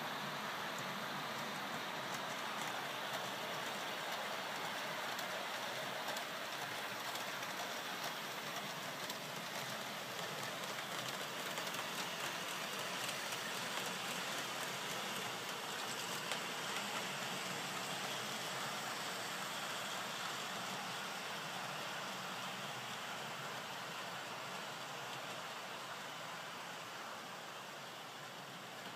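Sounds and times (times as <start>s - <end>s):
model train motors whirring: 0.0s - 28.9s.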